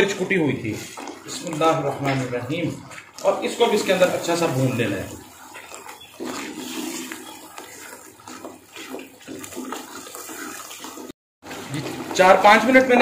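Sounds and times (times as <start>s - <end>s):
paste sizzling and bubbling in oil: 0.0s - 13.0s
spatula stirring in pot: 0.0s - 13.0s.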